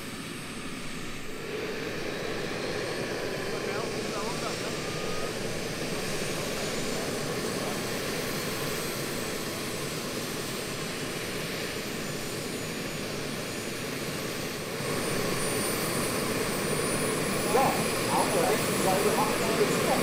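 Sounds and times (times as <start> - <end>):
gas turbine engines running: 0.0 - 20.0
high turbine whine: 0.0 - 20.0.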